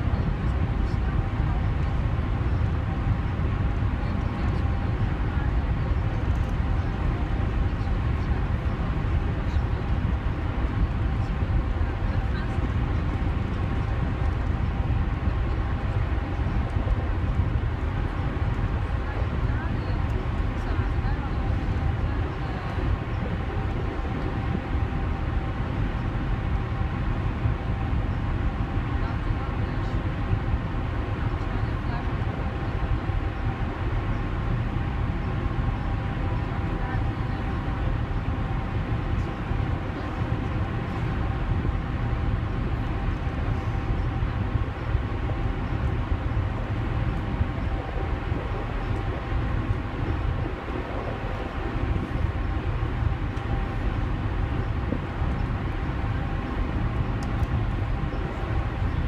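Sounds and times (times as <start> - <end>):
faint steady hum: 0.0 - 59.0
ferry engine rumble: 0.0 - 59.0
ship machinery drone: 0.0 - 59.0
wind buffeting microphone: 0.0 - 59.0.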